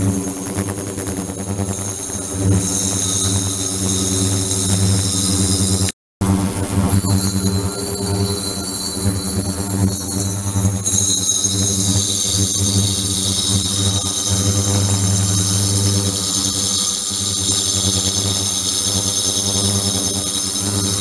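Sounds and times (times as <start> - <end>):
high-pitched hiss and whine: 0.0 - 21.0
ultrasonic cleaner buzzing hum: 0.0 - 21.0.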